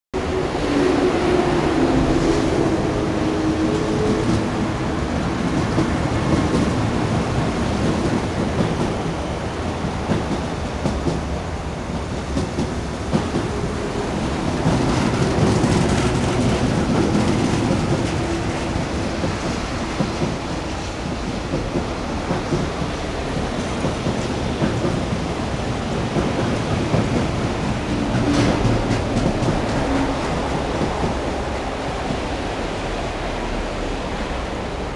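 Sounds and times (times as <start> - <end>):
pitched train hum: 0.2 - 34.9
train wheels rumbling on rail: 0.2 - 34.9.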